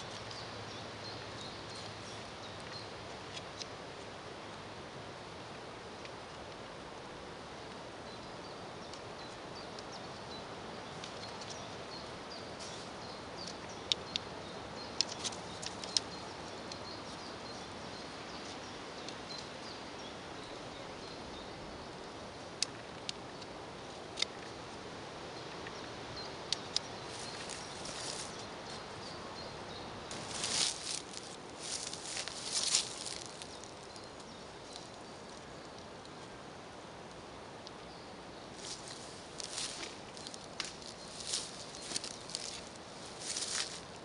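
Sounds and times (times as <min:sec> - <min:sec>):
small birds chirping: 0:00.0 - 0:04.2, 0:07.6 - 0:36.8, 0:37.6 - 0:44.0
outdoor background noise: 0:00.0 - 0:44.0.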